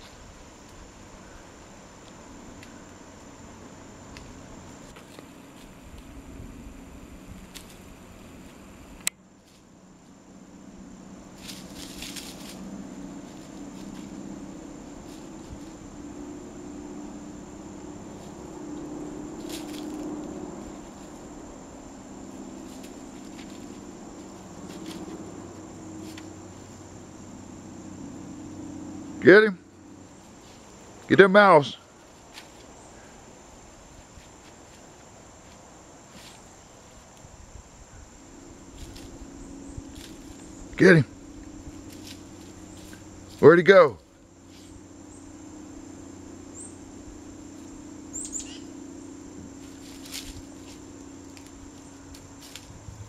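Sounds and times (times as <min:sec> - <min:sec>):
rustling of dry leaves and twigs: 0:00.0 - 0:27.9, 0:29.7 - 0:31.1, 0:31.8 - 0:53.0
faint high insect drone: 0:00.0 - 0:53.0
steady low hum: 0:00.0 - 0:53.0.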